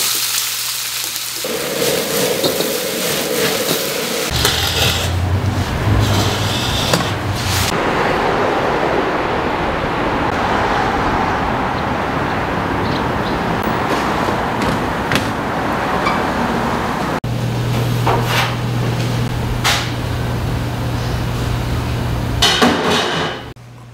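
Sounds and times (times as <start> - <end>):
city street traffic: 1.4 - 23.9.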